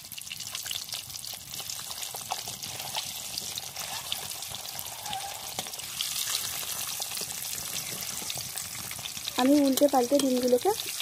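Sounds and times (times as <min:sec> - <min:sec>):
eggs sizzling in hot oil: 0:00.0 - 0:11.0
spitting oil crackles and pops: 0:00.0 - 0:11.0.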